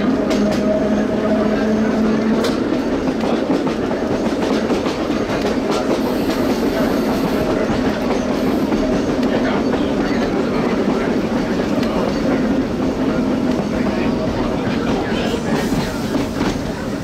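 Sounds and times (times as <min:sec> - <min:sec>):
clickety-clack of rail joints: 0:00.0 - 0:17.0
train wheels rumbling on rails: 0:00.0 - 0:17.0.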